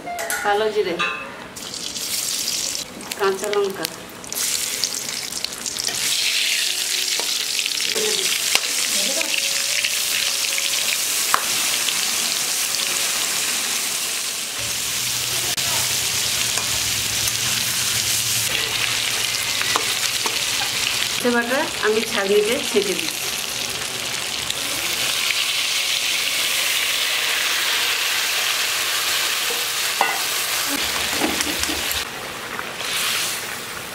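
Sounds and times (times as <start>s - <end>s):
seeds sizzling in hot oil: 1.6s - 33.9s.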